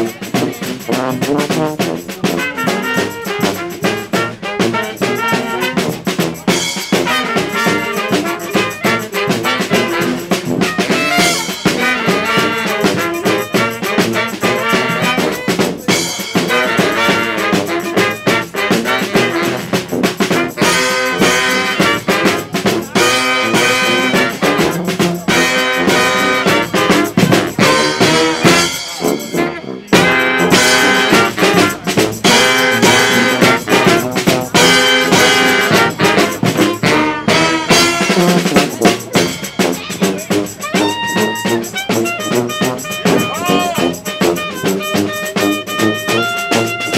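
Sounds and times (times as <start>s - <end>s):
brass band playing upbeat tune: 0.0s - 46.9s.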